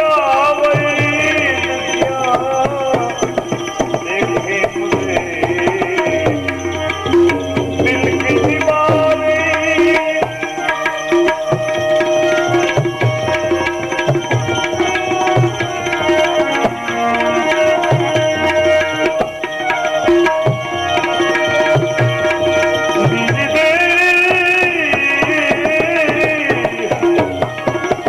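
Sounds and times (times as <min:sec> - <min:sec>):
held melodic notes: 0:00.0 - 0:28.0
tabla playing a rhythm: 0:00.0 - 0:28.0.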